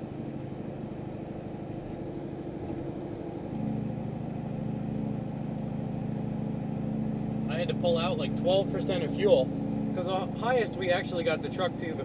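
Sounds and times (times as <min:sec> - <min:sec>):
truck engine and exhaust at speed: 0:00.0 - 0:12.0.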